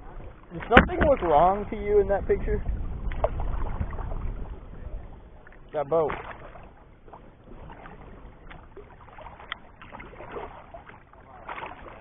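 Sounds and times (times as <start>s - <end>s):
faint water and air noise: 0.0s - 12.0s.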